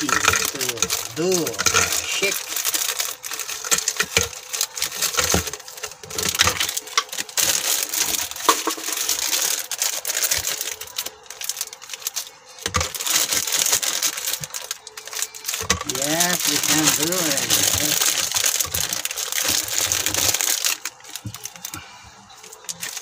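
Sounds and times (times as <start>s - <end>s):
ice cubes clinking into plastic cups: 0.0s - 23.0s
plastic bag crinkling: 0.0s - 23.0s.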